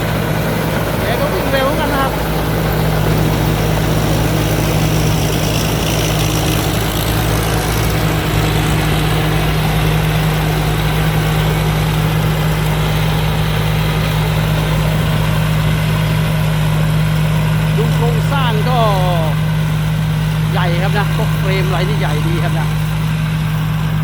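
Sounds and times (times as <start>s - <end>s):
diesel engine humming: 0.0s - 24.0s.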